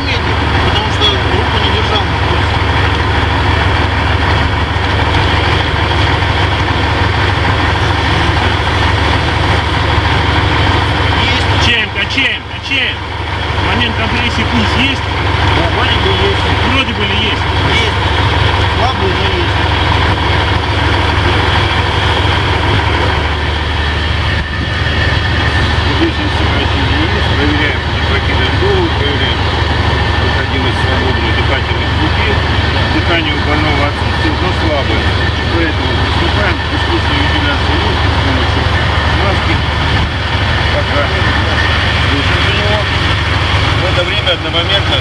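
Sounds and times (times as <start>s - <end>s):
heavy machinery drone: 0.0s - 45.0s.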